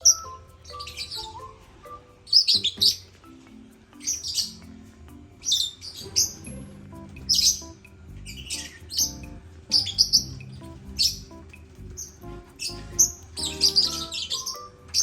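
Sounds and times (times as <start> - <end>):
lovebirds chirping: 0.0 - 15.0
soft background music: 0.0 - 15.0.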